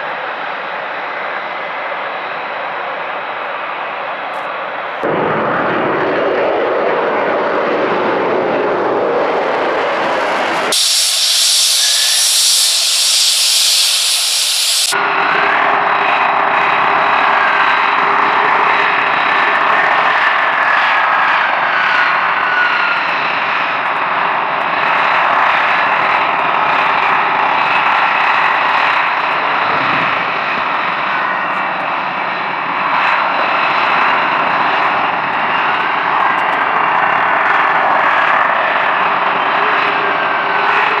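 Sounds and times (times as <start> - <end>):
jet engines taxiing: 0.0 - 41.0.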